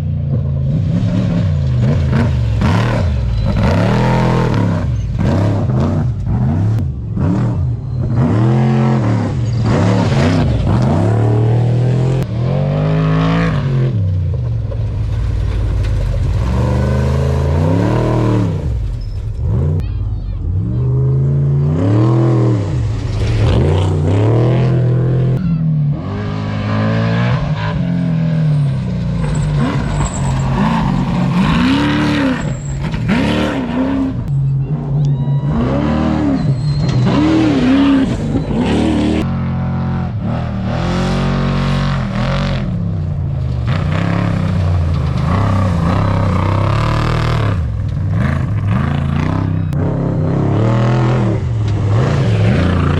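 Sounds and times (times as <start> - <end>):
truck engines revving hard: 0.0 - 52.9.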